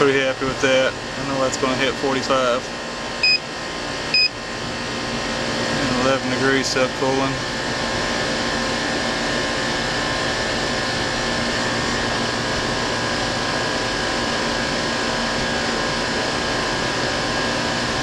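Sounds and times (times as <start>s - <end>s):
air conditioner unit running: 0.0s - 18.0s.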